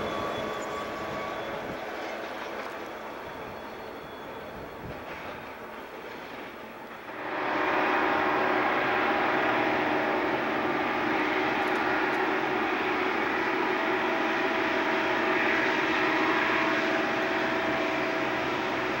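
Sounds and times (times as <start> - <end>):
diesel locomotive droning: 0.0 - 19.0.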